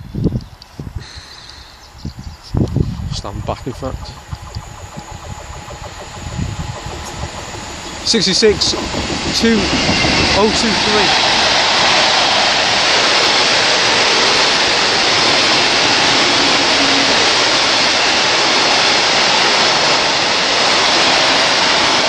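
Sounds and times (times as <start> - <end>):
freight train rushing past: 2.6 - 22.0.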